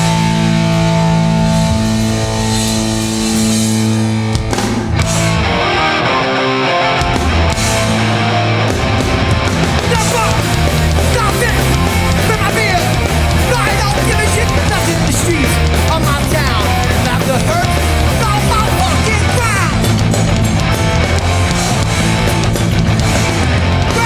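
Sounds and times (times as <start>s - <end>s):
bass guitar: 0.0s - 24.0s
distorted electric guitars: 0.0s - 24.0s
drums: 0.0s - 24.0s.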